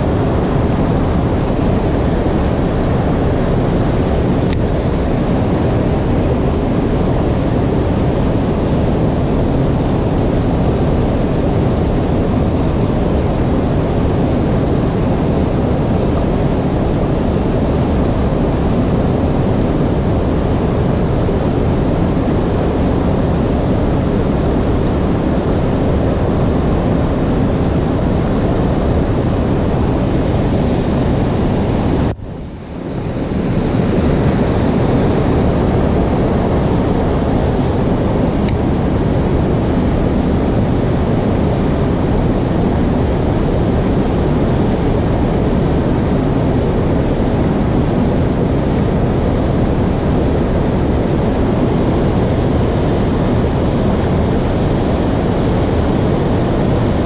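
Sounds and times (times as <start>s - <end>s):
rushing water roar: 0.0s - 57.0s.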